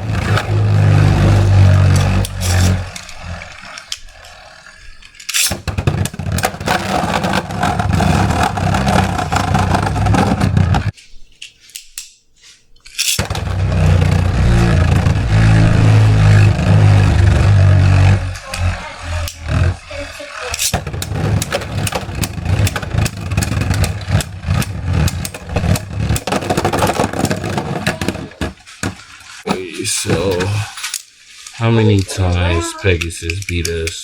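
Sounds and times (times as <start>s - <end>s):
spinning tops whirring and scraping: 0.0s - 11.0s, 12.4s - 34.0s.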